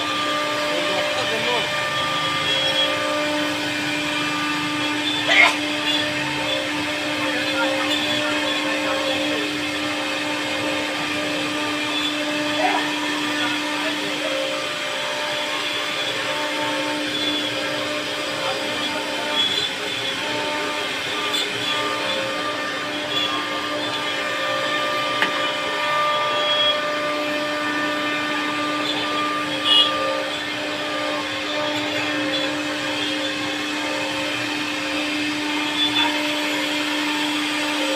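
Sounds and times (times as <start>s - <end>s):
router carving wood hiss: 0.0s - 37.9s
wood router whining: 0.0s - 37.9s.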